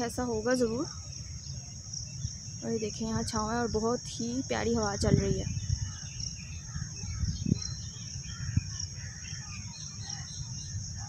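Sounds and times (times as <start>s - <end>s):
birds chirping: 0.0s - 11.0s
high insect drone: 0.0s - 11.0s
wind rumbling on microphone: 0.0s - 11.0s.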